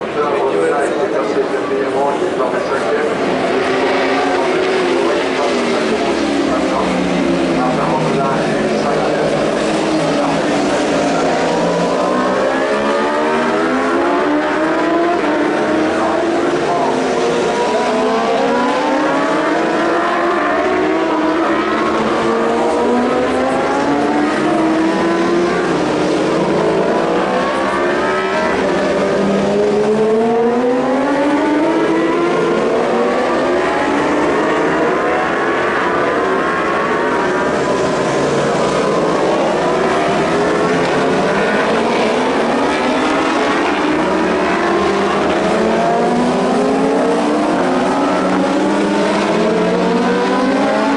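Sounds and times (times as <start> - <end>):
racing motorcycles accelerating: 0.0 - 50.9.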